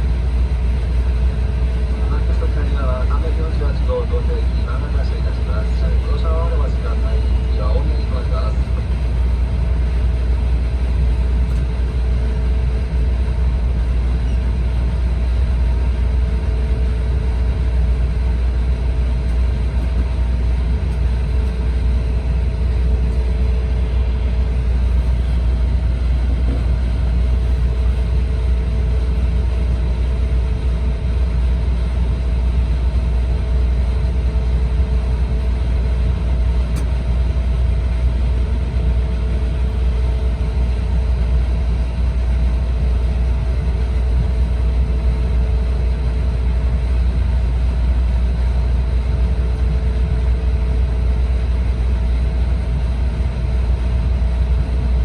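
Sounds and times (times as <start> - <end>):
faint steady whining tones: 0.0 - 55.0
train cabin low rumble: 0.0 - 55.0.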